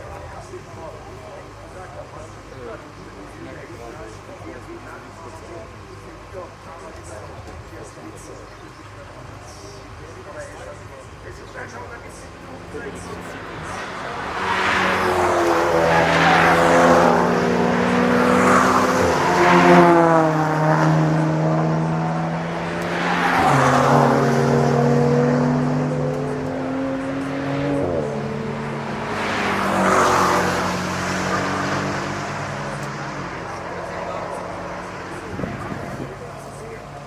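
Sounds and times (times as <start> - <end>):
race cars passing at speed: 0.0 - 37.0.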